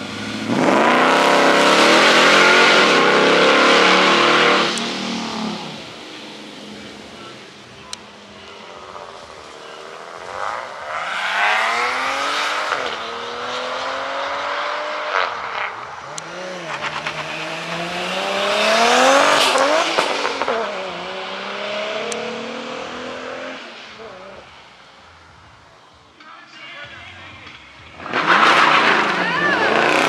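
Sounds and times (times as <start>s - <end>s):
car engine accelerating hard: 0.0s - 24.5s, 27.9s - 30.0s.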